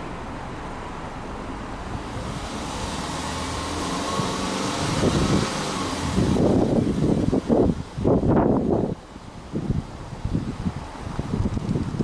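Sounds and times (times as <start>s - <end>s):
car exhaust engine revving: 0.0s - 12.0s.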